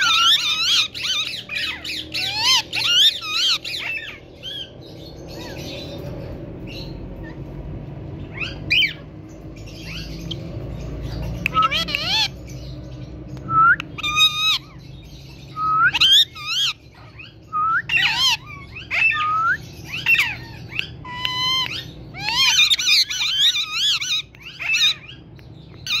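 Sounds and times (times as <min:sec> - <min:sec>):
parakeet high-pitched calls: 0:00.0 - 0:26.0.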